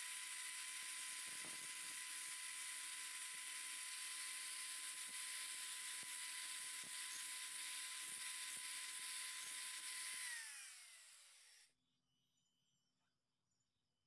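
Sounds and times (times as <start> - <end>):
angle grinder sanding bamboo: 0.0 - 11.6.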